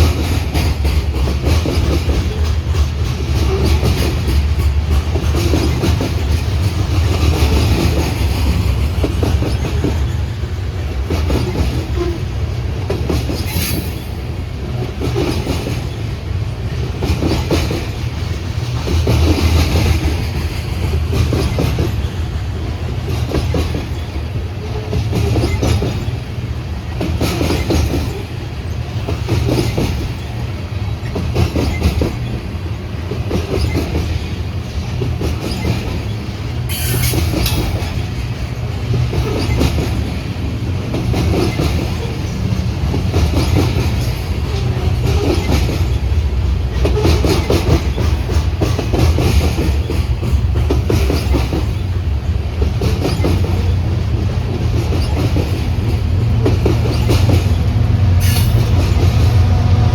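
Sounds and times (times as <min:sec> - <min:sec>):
train wheels clacking over rails: 0:00.0 - 0:59.9
high train squeal: 0:01.6 - 0:18.5, 0:19.3 - 0:32.6, 0:33.2 - 0:59.9.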